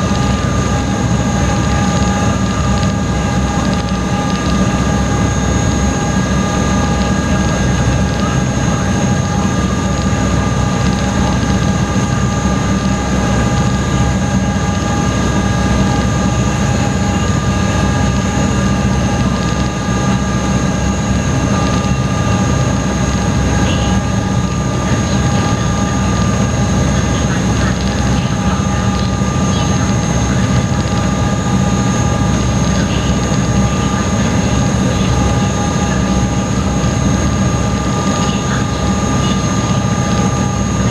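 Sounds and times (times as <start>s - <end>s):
boat engines droning: 0.0s - 40.9s
steady whining tones: 0.0s - 40.9s.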